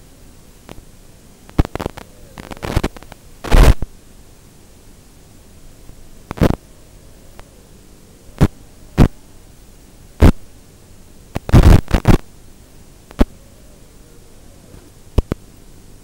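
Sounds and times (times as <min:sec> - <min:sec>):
loud bursts of static: 0:00.0 - 0:16.0
steady low hiss and hum: 0:00.0 - 0:16.0.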